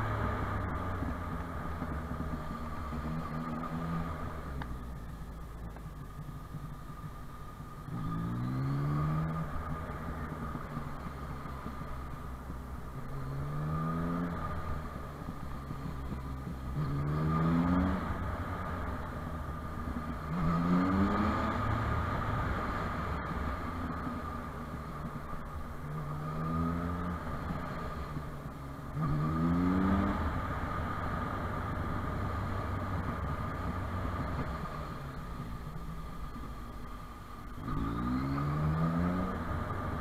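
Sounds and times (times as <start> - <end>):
steady low rumble: 0.0 - 38.0
motorcycle engine accelerating: 0.0 - 40.0.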